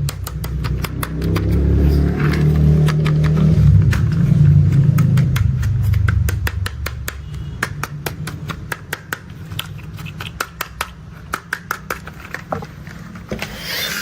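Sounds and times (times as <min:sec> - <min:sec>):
sharp irregular clicks and taps: 0:00.0 - 0:12.7.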